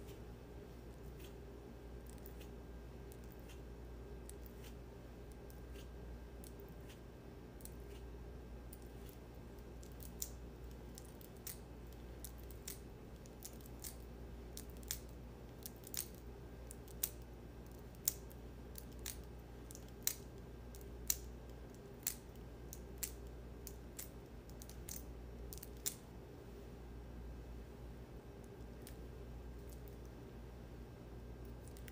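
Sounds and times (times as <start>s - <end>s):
faint low hum: 0.0s - 31.9s.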